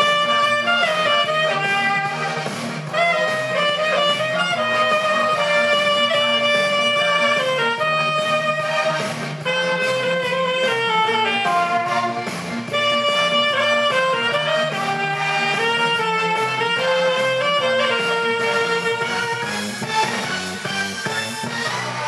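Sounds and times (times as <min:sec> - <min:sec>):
alto saxophone melody: 0:00.0 - 0:22.0
musical accompaniment: 0:00.0 - 0:22.0.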